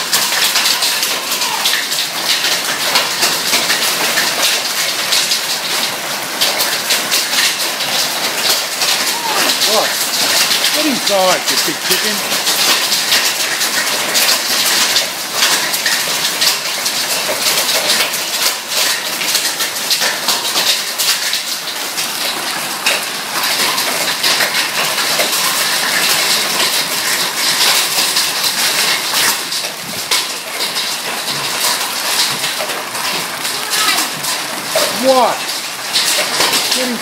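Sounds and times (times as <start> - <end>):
hailstones pelting concrete: 0.0 - 37.0
rain: 0.0 - 37.0.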